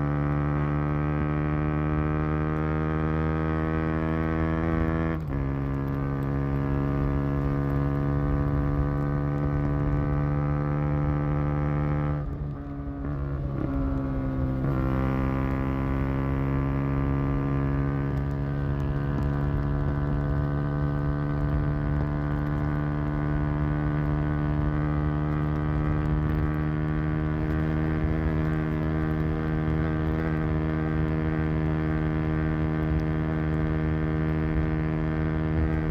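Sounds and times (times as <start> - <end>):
motorcycle engine and exhaust: 0.0 - 35.9.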